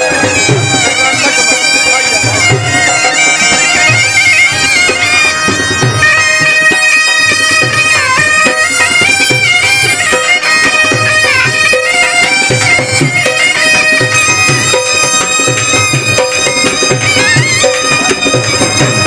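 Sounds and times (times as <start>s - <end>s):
dhol drum thumps: 0.0s - 19.0s
shehnai melody: 0.0s - 19.0s.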